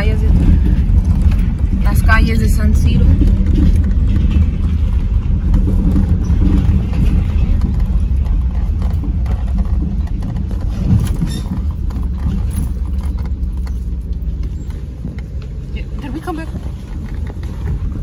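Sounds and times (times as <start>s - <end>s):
car engine rumble: 0.0s - 18.0s
tyre noise on rough street: 0.0s - 18.0s.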